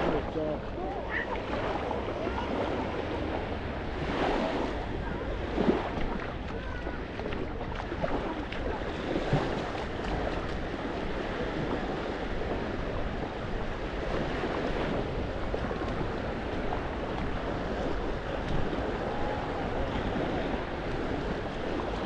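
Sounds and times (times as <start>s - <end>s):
sea surf washing on shore: 0.0s - 22.0s
wind buffeting microphone: 0.0s - 22.0s.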